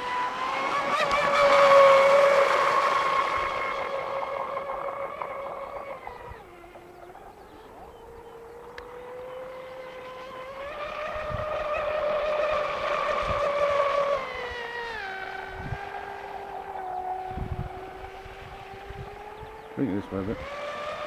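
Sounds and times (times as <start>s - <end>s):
rc boat motor whining: 0.0s - 21.0s.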